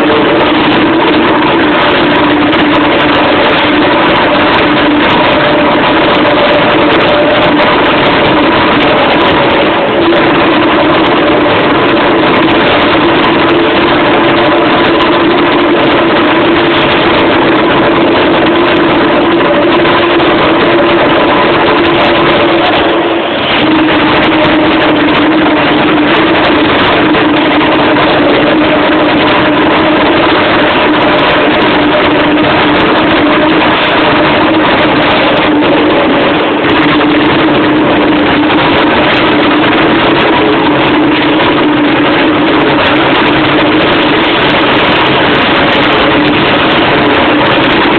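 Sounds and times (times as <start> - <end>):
motor humming: 0.0 - 47.9.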